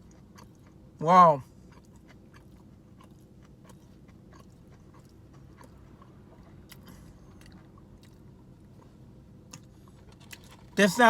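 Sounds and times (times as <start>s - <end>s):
person chewing food: 0.0s - 10.8s
low hum: 0.0s - 11.0s.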